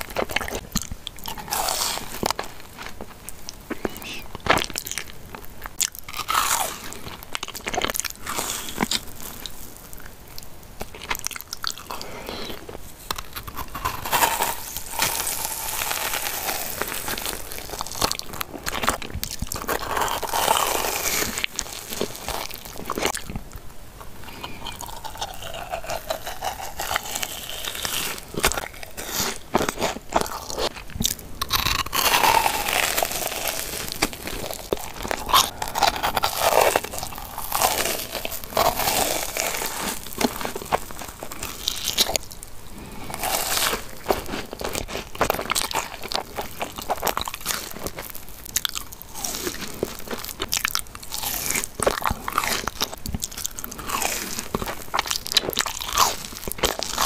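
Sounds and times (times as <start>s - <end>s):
crunching fried food: 0.0s - 57.0s
soft chewing: 0.0s - 57.0s.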